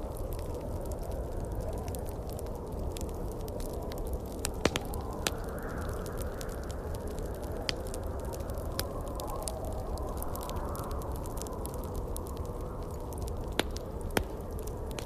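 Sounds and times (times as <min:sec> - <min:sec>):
low rush of wind: 0:00.0 - 0:15.0
wood fire crackling: 0:00.0 - 0:15.0.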